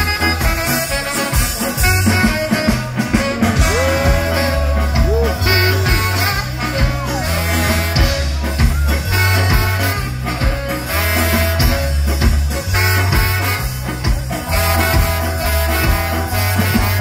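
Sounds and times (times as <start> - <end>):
ska band playing live: 0.0 - 17.0
trombone sliding notes: 0.0 - 17.0.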